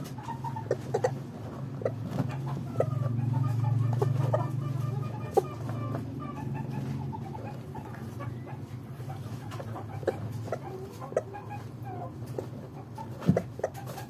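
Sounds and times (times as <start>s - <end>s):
chickens clucking: 0.0s - 14.0s
steady low hum: 0.0s - 14.0s.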